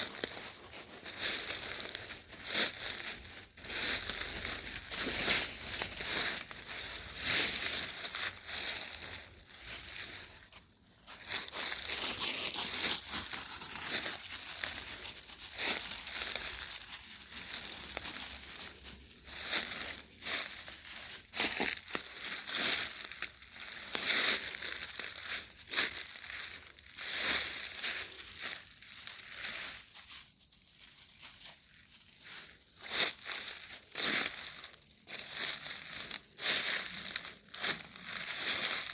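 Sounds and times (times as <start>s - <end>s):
footsteps crunching through dry leaves: 0.0s - 38.9s.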